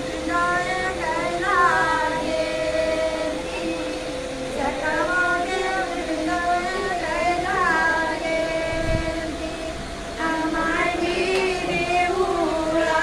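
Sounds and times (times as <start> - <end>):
melody of long held notes: 0.0 - 13.0.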